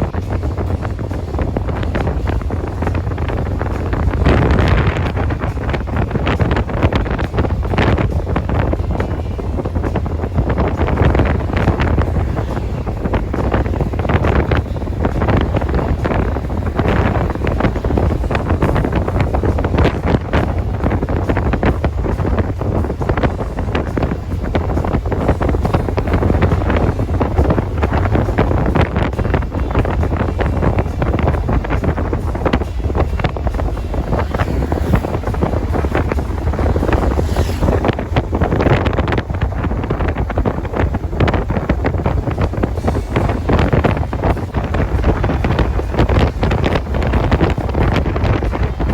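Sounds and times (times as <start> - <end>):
low rumble: 0.0 - 48.9
wind buffeting microphone: 0.0 - 48.9.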